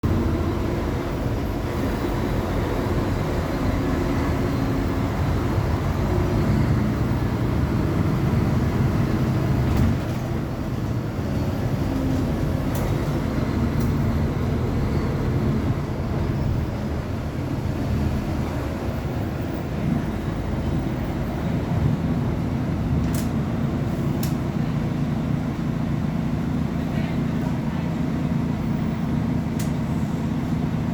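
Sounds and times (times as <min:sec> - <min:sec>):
bus diesel engine running: 0:00.0 - 0:30.9.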